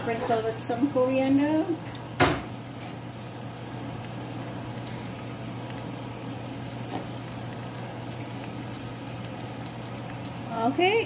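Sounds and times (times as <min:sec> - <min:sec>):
food sizzling in a skillet: 0:00.1 - 0:11.0.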